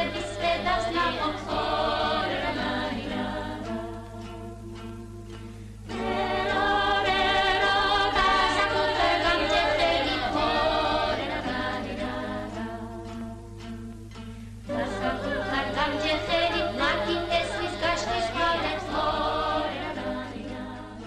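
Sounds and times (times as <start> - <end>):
choir singing: 0.0 - 13.8, 14.6 - 21.0
steady low hum: 0.0 - 21.0.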